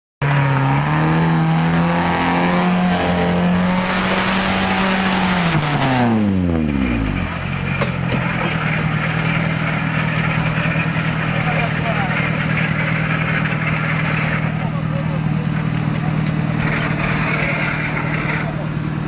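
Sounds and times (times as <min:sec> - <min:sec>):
vehicle engine droning: 0:00.2 - 0:19.0.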